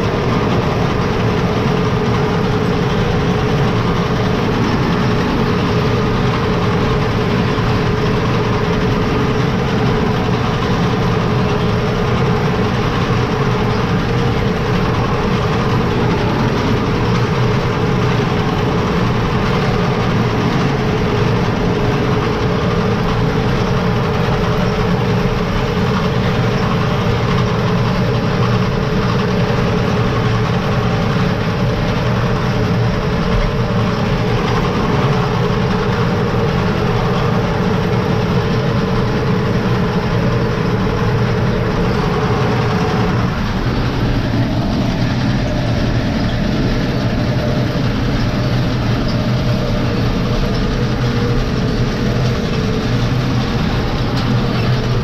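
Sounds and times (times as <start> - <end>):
driveline whine: 0.0 - 55.0
tractor diesel engine running: 0.0 - 55.0.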